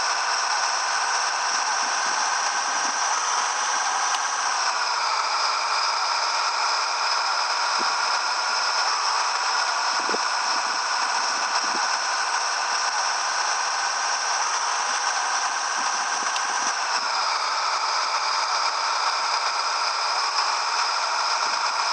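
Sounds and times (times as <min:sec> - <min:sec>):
truck running noise: 0:00.0 - 0:21.9.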